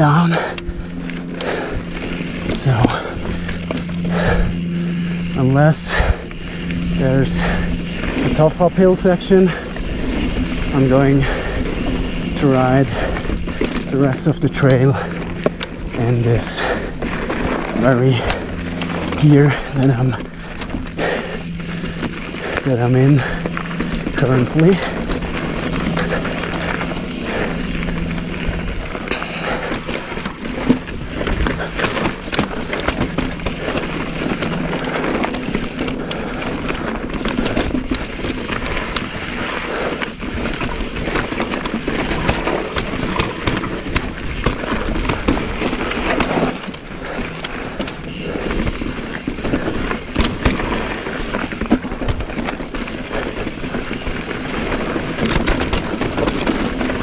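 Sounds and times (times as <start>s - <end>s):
bike rattling: 0.0s - 57.0s
bike tyres crunching over rock: 0.0s - 57.0s.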